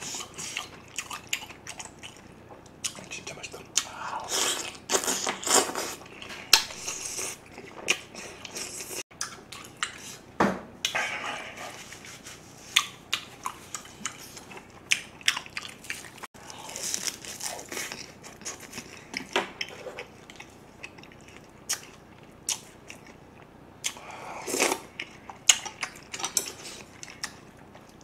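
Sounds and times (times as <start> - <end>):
wet chewing: 0.0 - 10.2, 12.7 - 28.0.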